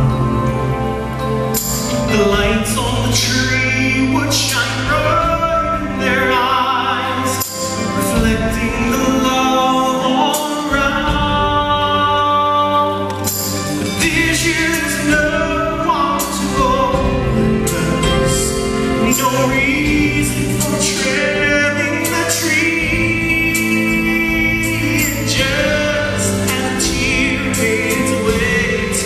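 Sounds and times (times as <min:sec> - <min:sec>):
instrumental accompaniment: 0:00.0 - 0:29.0
man singing with vibrato: 0:01.6 - 0:29.0.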